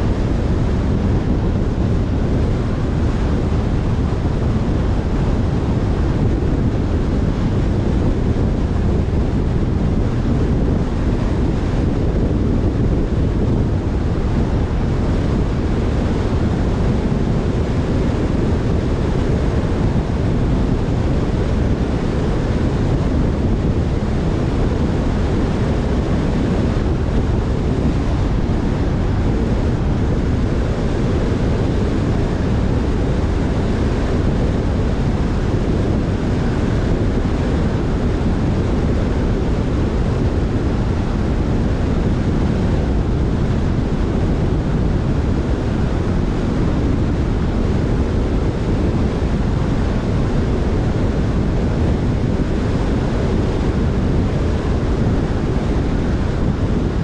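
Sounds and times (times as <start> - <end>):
wind and road noise: 0.0 - 57.0
wind buffeting microphone: 0.0 - 57.0.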